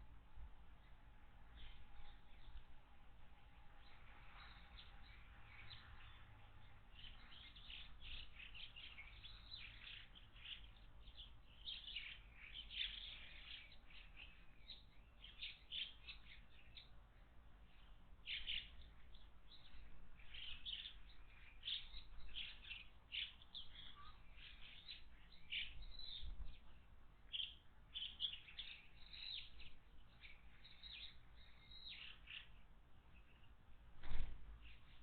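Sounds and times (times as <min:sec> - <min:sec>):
wild birds chirping: 0:00.0 - 0:35.0.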